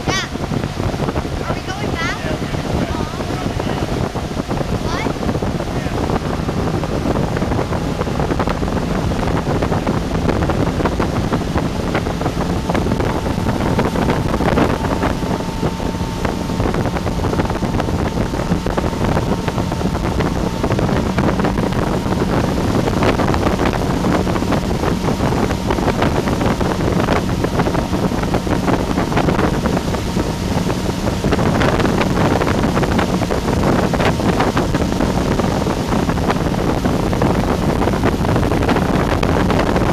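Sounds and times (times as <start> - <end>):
motorboat engine humming: 0.0 - 39.9
rush of churning wake: 0.0 - 39.9
wind buffeting microphone: 0.0 - 39.9.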